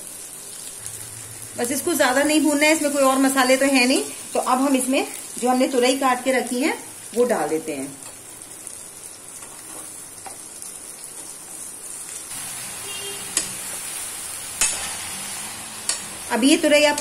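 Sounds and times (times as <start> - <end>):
frying sizzle: 0.0 - 17.0.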